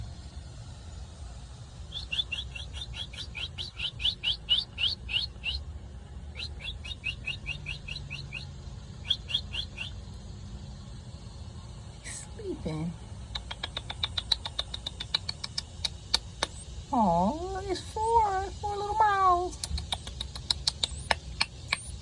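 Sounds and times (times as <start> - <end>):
small bird chirping: 1.8 - 10.2, 12.0 - 22.0.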